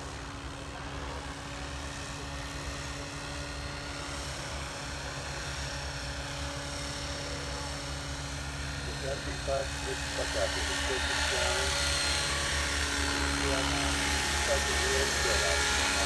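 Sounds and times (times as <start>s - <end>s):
fluttering rotor thrum: 0.0s - 16.0s
rc helicopter motor whine: 0.0s - 16.0s.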